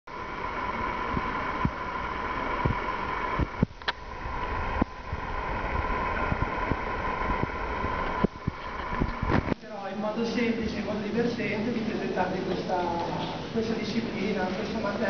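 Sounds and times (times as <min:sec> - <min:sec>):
room hum and hiss: 0:00.1 - 0:15.0.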